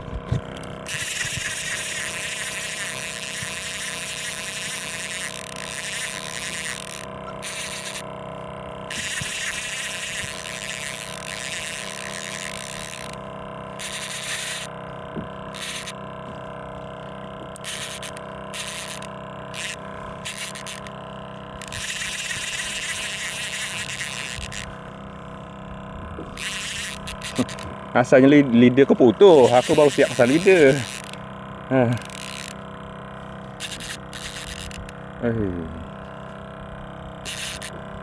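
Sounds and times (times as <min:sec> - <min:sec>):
fishing reel whirring: 0:00.0 - 0:38.0
steady hum: 0:00.0 - 0:38.0.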